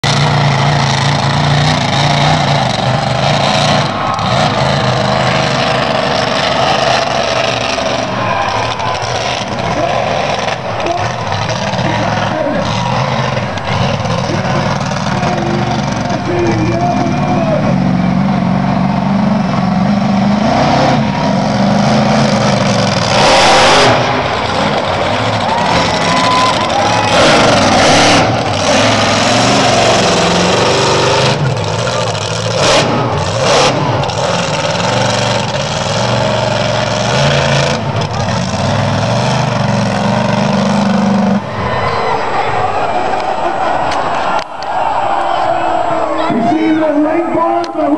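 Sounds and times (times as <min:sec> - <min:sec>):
truck engine running loud: 0:00.0 - 0:47.9.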